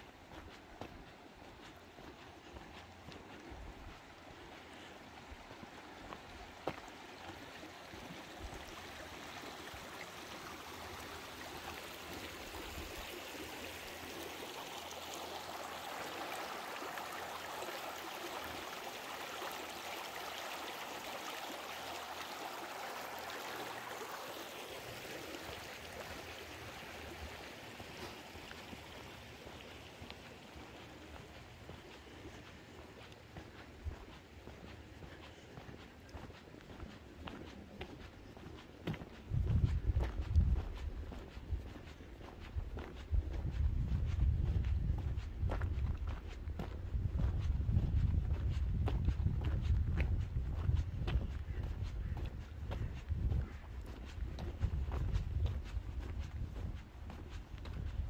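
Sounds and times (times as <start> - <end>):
rushing mountain stream: 0.0 - 58.0.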